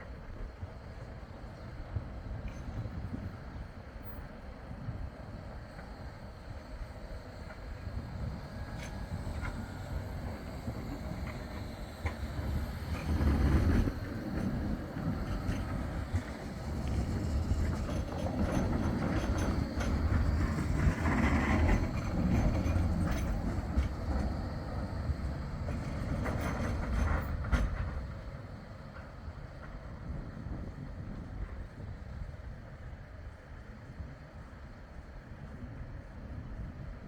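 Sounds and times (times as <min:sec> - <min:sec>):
tram wheels rumbling on rail: 0:00.0 - 0:37.0.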